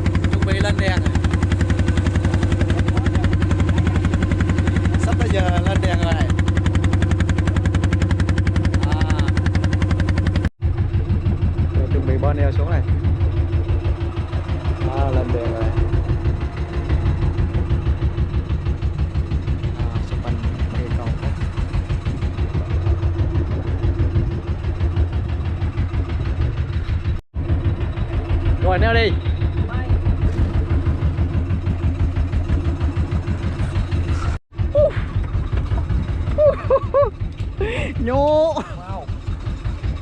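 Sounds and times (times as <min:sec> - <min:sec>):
boat engine thumping: 0:00.0 - 0:40.0.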